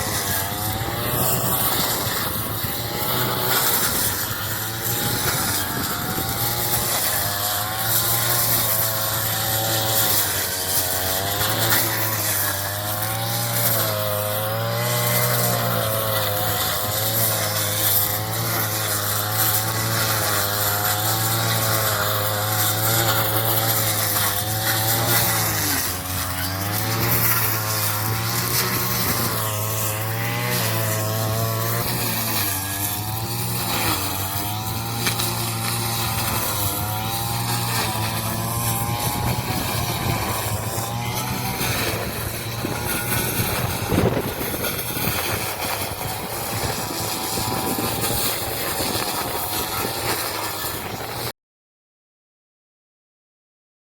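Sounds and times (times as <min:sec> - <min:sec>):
small engine running hard: 0:00.0 - 0:51.4.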